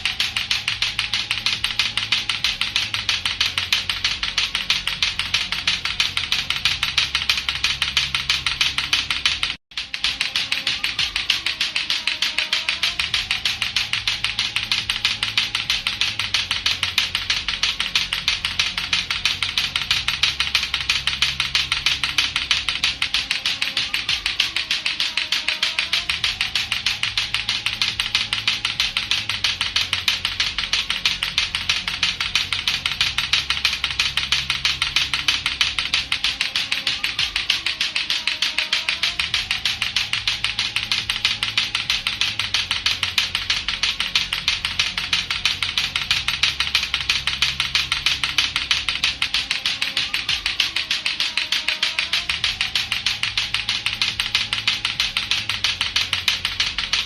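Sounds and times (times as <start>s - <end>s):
clacker toy balls clacking: 0.0s - 57.0s.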